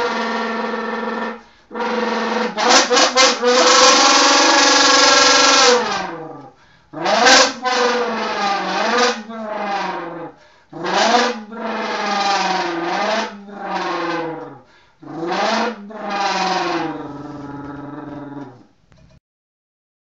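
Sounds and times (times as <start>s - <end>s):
mouth imitation of an engine: 0.0s - 18.6s.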